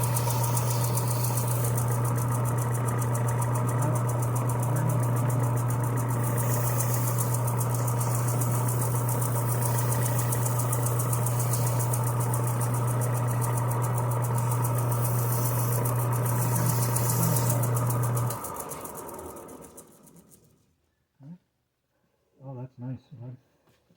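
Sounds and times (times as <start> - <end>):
electric power sander running: 0.0 - 20.4.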